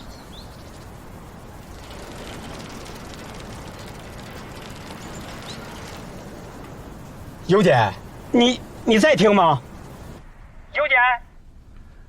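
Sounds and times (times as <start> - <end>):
crackling static hiss on telephone line: 0.0 - 12.0.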